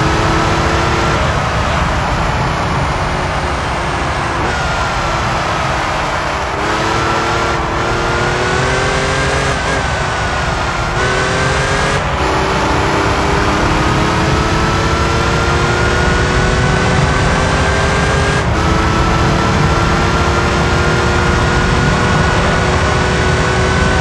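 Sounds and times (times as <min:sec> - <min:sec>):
car engine at highway speed: 0:00.0 - 0:24.0
road noise rushing: 0:00.0 - 0:24.0.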